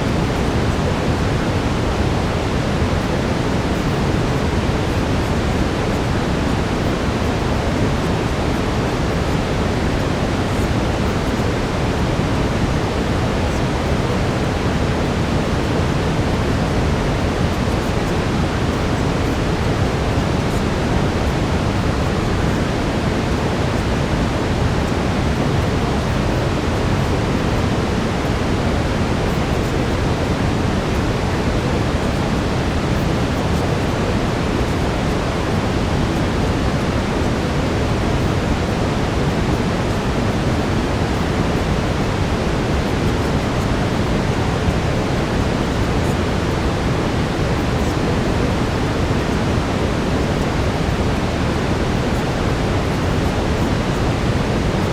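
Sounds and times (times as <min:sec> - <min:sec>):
brown noise hiss: 0:00.0 - 0:54.9.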